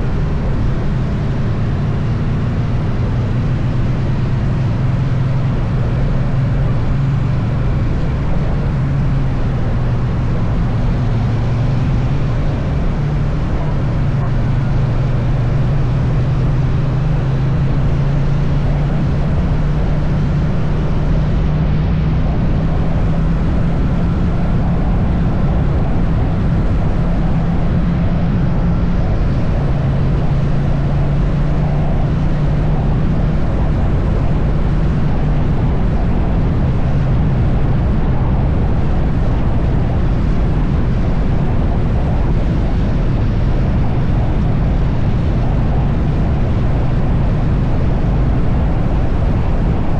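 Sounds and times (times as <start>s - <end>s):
motorcycle engine cruising: 0.0s - 49.9s
wind and road noise: 0.0s - 49.9s.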